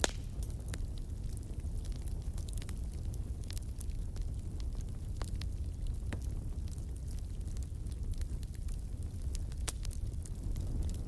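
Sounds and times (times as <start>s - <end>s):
fire crackling and popping: 0.0s - 11.0s
low rumble of flames: 0.0s - 11.0s.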